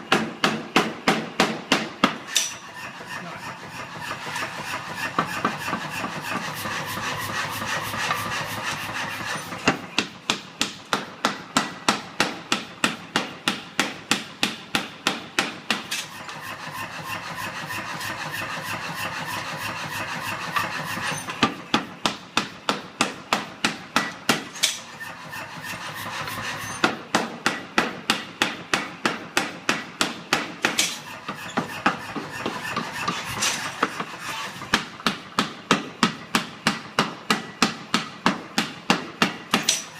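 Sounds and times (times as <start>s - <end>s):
power hammer striking metal bar: 0.0s - 39.9s.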